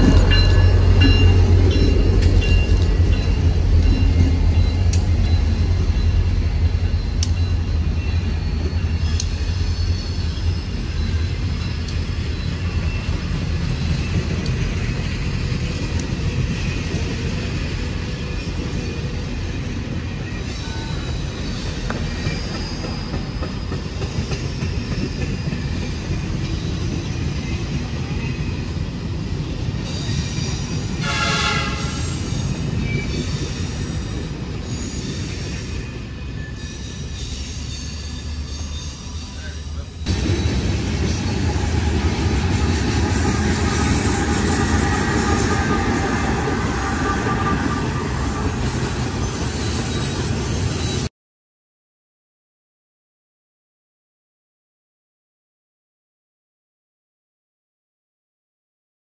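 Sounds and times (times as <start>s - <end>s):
train wheels rumbling: 0.0s - 51.1s.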